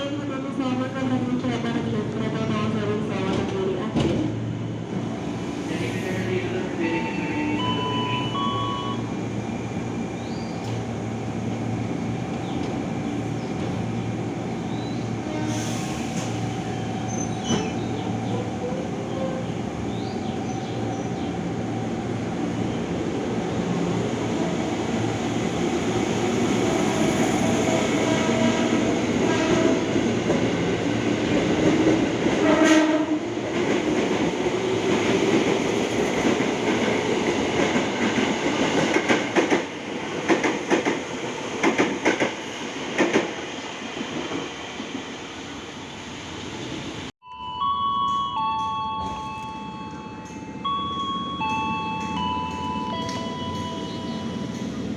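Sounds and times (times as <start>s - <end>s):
electric train rumbling on rails: 0.0s - 54.9s.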